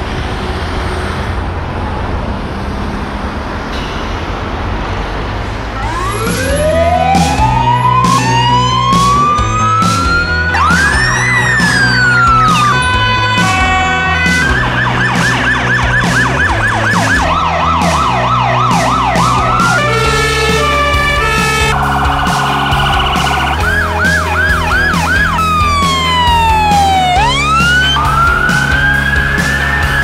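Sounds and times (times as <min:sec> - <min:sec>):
emergency vehicle sirens: 0:01.4 - 0:30.0
background music with steady beat: 0:05.8 - 0:30.0.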